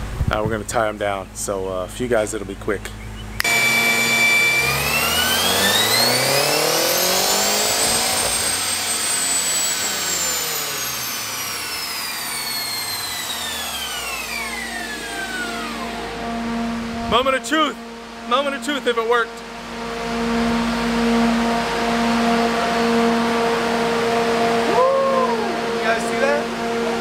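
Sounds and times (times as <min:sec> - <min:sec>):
car engine at full throttle: 0:03.3 - 0:27.0.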